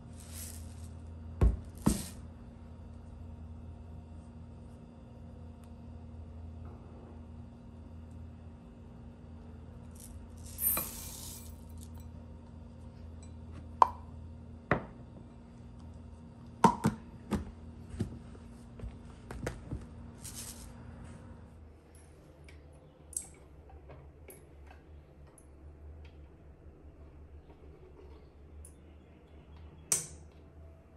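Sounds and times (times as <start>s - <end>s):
faint low hum: 0.0s - 30.9s.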